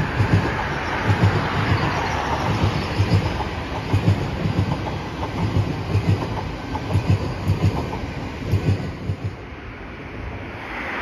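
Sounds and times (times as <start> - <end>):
train wheels clicking over rail joints: 0.0 - 9.4.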